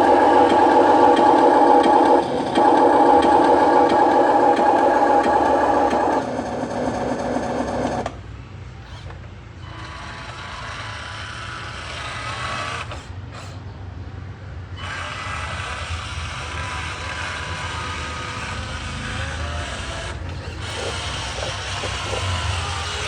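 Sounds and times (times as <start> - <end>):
toy truck motor whirring: 0.0 - 13.7, 14.6 - 23.0.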